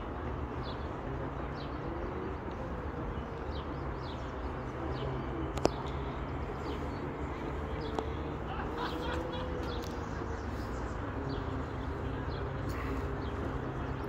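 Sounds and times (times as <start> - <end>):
small birds chirping: 0.2 - 14.0.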